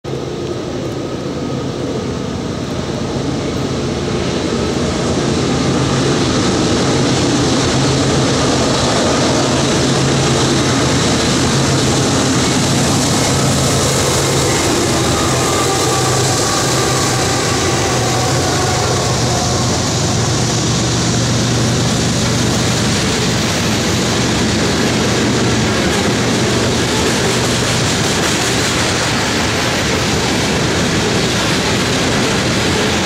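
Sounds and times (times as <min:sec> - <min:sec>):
diesel locomotives droning: 0:00.0 - 0:33.0.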